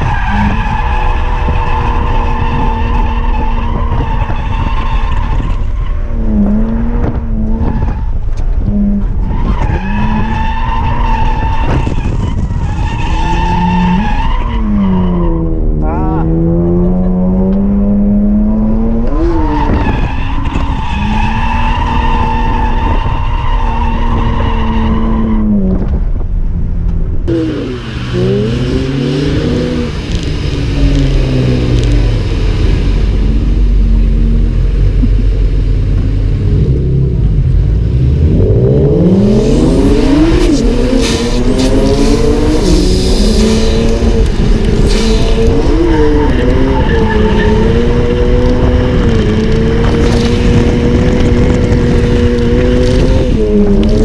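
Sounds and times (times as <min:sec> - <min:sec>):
car engine revving: 0:00.0 - 0:26.2, 0:26.9 - 0:54.0
tyres skidding: 0:00.0 - 0:54.0.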